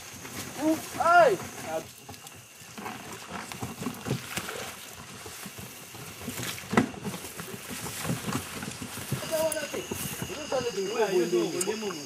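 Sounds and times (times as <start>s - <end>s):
wagon knocking and rattling: 0.0s - 11.5s
scuffing footsteps on dirt: 0.0s - 12.0s.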